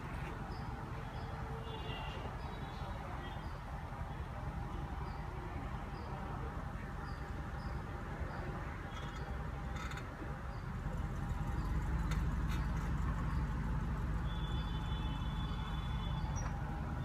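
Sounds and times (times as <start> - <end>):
car engine idling: 2.4 - 17.0.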